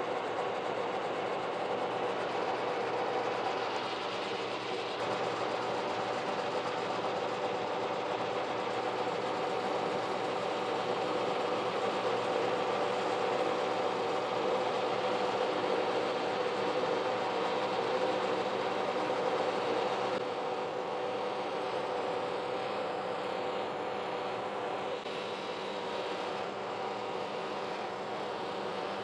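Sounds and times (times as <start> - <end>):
milling machine hum: 0.0 - 29.0.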